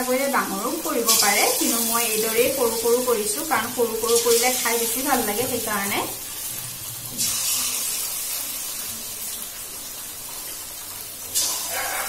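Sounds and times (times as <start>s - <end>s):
batter deep-frying in oil: 0.0s - 12.0s.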